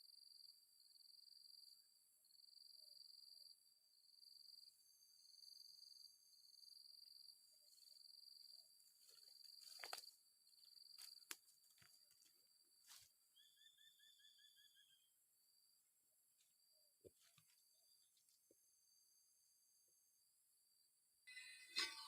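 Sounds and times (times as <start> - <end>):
faint high insect trilling: 0.0 - 22.0.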